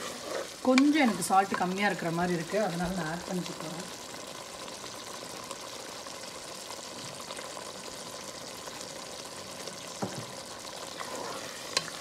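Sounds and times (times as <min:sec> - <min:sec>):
curry simmering and bubbling: 0:00.0 - 0:12.0.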